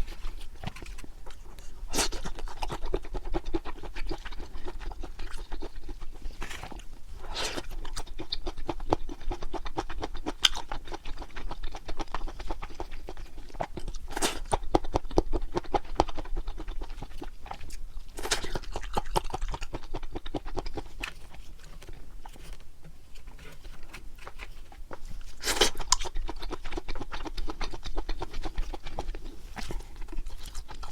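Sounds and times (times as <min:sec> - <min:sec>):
close chewing mouth sounds: 0:00.0 - 0:30.9.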